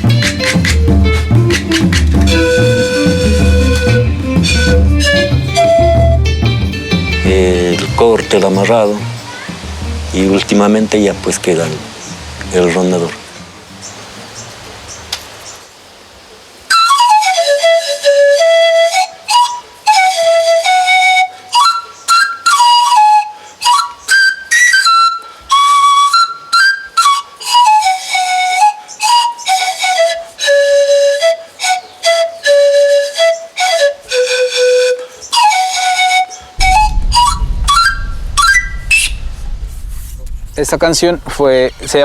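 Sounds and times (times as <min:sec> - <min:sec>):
panpipe melody: 0:00.0 - 0:12.0, 0:16.7 - 0:39.1.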